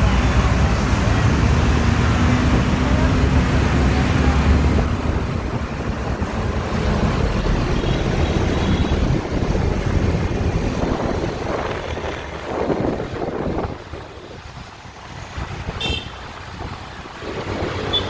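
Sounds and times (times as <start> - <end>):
road traffic rumble: 0.0 - 18.0
wind buffeting microphone: 0.0 - 18.0.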